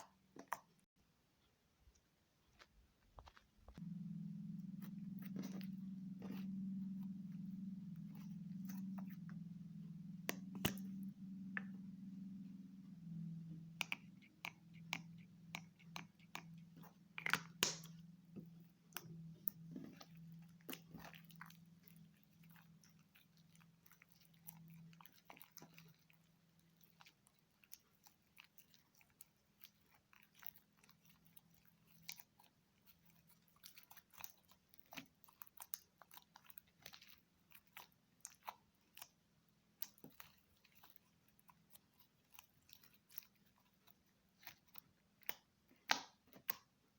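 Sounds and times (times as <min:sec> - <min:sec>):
low steady hum: 0:00.1 - 0:46.9.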